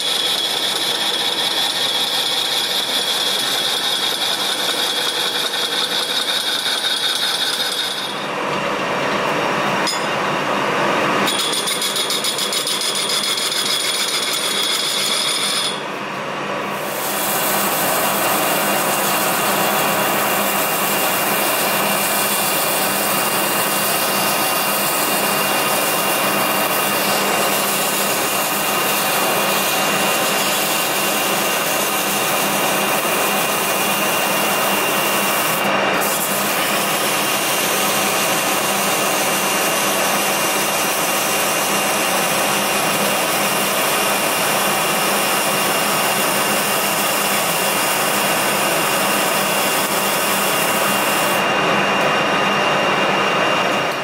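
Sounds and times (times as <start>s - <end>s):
file rasping on turning pipe: 0.0s - 8.2s, 11.3s - 15.8s, 16.8s - 51.4s
lathe whine: 0.0s - 54.0s.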